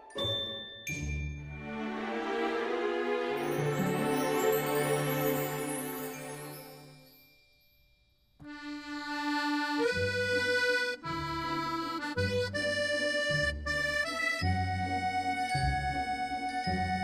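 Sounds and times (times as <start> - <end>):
background music: 0.0 - 7.2, 8.6 - 17.0.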